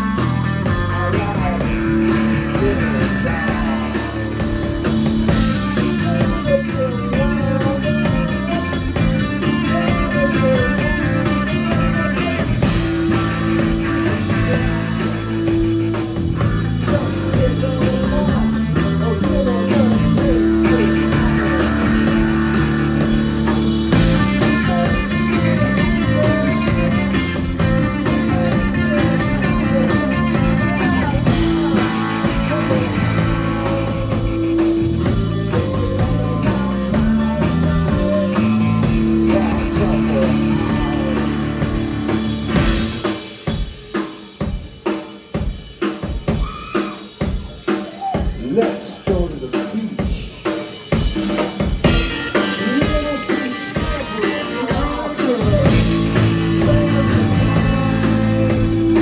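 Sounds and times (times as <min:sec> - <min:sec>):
man singing: 0:00.0 - 0:43.2, 0:46.4 - 0:50.9, 0:51.8 - 0:59.0
electric guitars playing riff: 0:00.0 - 0:43.4, 0:51.8 - 0:59.0
drum kit: 0:00.0 - 0:59.0.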